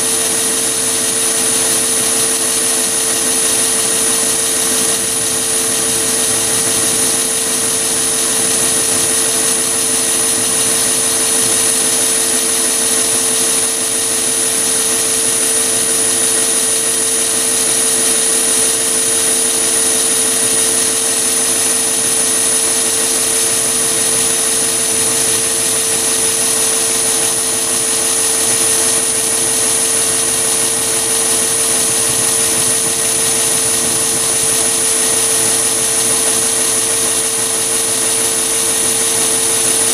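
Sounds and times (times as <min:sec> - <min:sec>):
end mill cutting metal: 0:00.0 - 0:39.9
lathe motor whine: 0:00.0 - 0:39.9.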